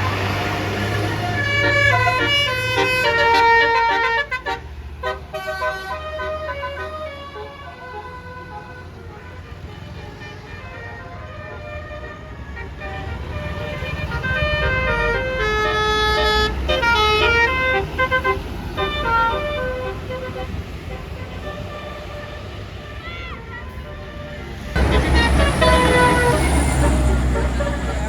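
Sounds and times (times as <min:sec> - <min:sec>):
bus engine rumble: 0:00.0 - 0:28.0
bus air horn melody: 0:00.8 - 0:28.0.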